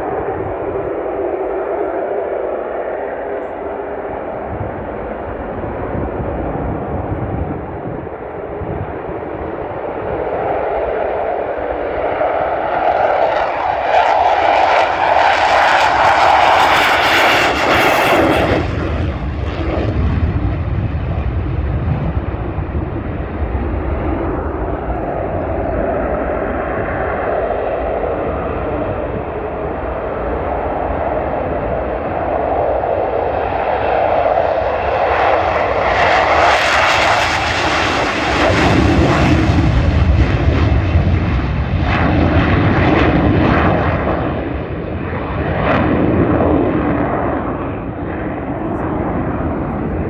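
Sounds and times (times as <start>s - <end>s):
fighter jet engines roaring: 0.0s - 50.0s.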